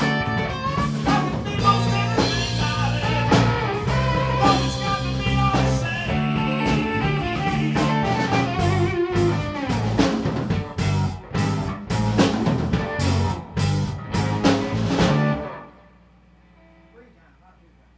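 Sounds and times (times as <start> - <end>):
live rock band playing: 0.0 - 15.9.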